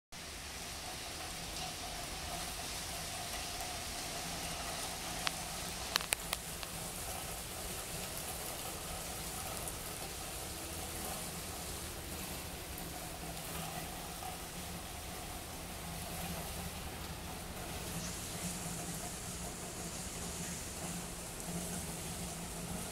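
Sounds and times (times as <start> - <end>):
rain falling on pavement: 0.2 - 22.9.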